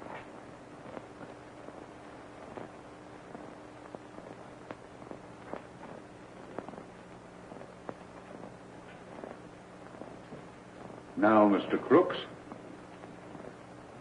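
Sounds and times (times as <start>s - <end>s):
crackles and clicks: 0.0s - 14.0s
low hum: 0.0s - 14.0s
steady film hiss: 0.0s - 14.0s.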